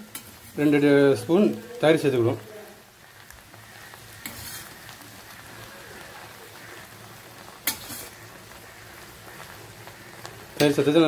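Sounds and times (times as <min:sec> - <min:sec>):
okra sizzling in oil: 0:00.0 - 0:11.0.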